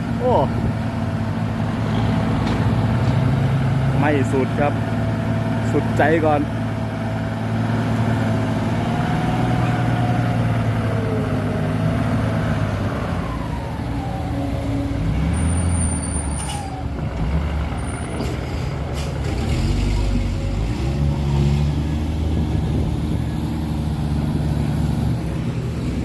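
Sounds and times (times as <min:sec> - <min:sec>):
truck diesel engine running hard: 0:00.0 - 0:26.0.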